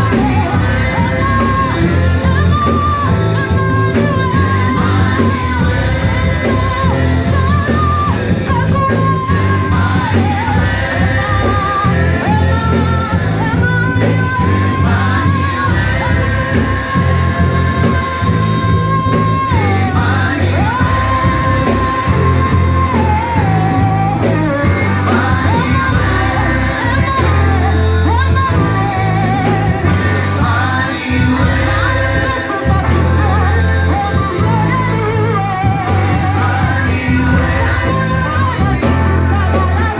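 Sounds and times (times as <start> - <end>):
band with steady bass: 0.0 - 39.9
person singing long notes: 0.0 - 39.9.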